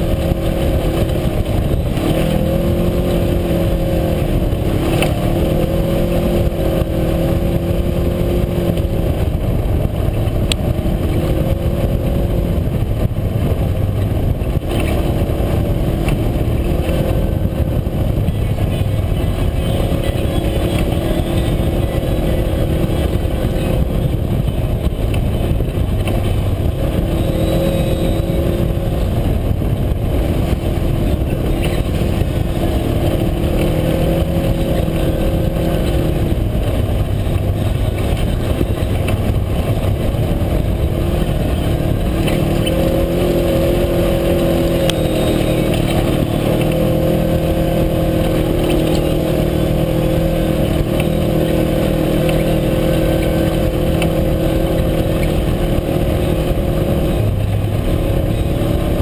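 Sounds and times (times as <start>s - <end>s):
loud ride noise: 0.0s - 59.0s
utility vehicle engine running: 0.0s - 59.0s.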